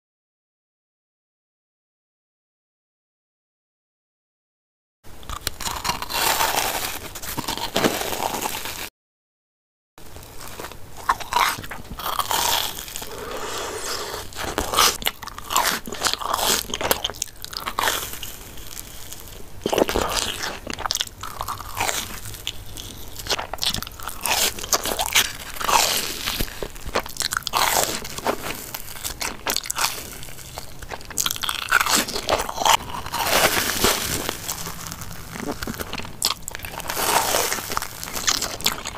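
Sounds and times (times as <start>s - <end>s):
chewing: 5.2s - 8.8s, 10.2s - 38.9s
crisp crunches of fried food: 5.2s - 8.9s, 10.0s - 38.9s.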